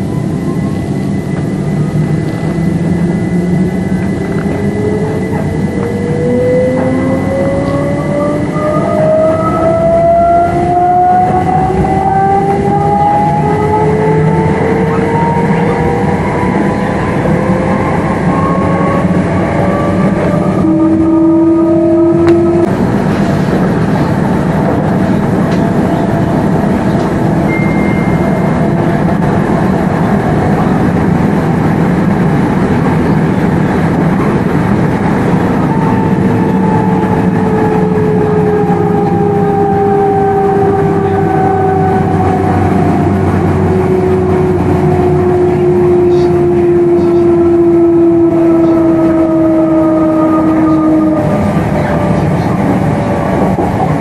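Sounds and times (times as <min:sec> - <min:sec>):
electric traction whine: 0:00.0 - 0:54.0
train running rumble: 0:00.0 - 0:54.0.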